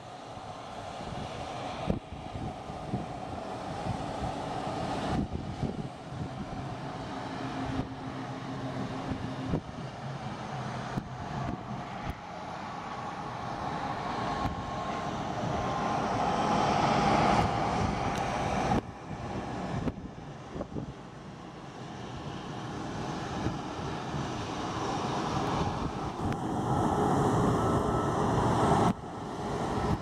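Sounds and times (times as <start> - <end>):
propeller airplane engine drone: 0.0 - 30.0.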